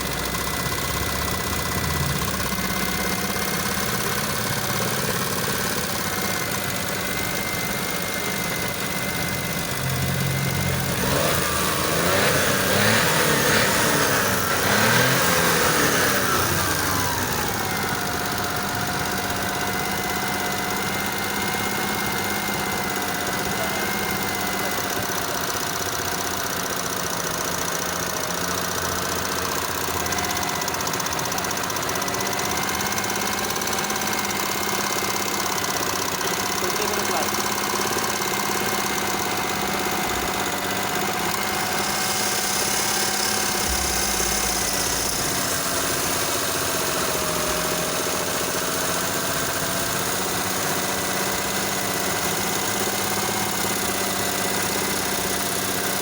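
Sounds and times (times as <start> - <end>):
engine idling and revving: 0.0 - 56.0.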